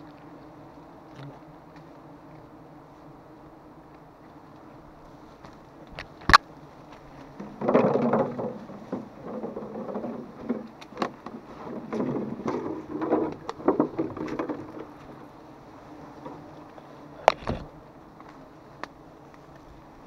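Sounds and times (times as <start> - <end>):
leafy branches rustling: 0.0 - 20.0.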